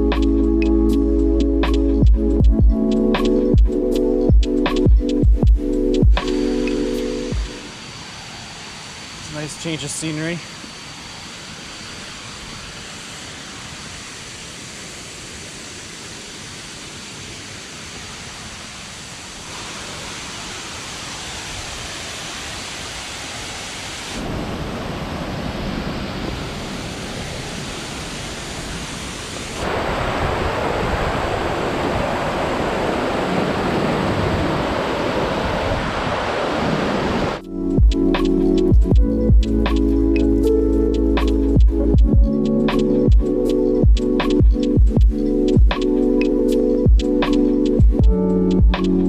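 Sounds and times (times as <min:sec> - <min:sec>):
steady rushing outdoor noise: 0:03.5 - 0:49.0.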